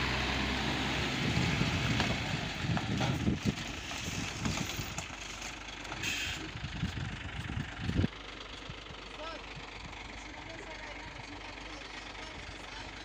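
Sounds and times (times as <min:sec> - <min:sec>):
truck engine running: 0:00.0 - 0:13.0
low thumps and rumbles: 0:01.0 - 0:13.0.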